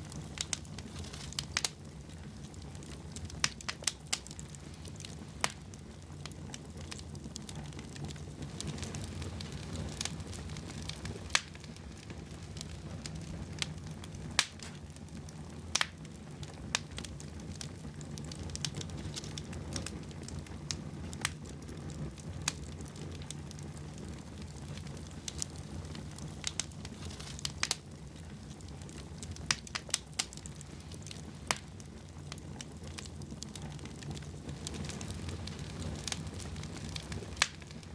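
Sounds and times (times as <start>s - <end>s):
burning logs crackling and popping: 0.0s - 37.9s
fire flames rumbling: 0.0s - 37.9s.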